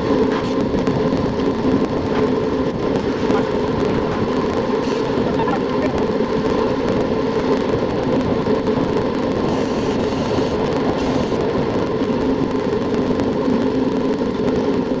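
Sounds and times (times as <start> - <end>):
constant hum: 0.0 - 15.0
wind and road rumble: 0.0 - 15.0.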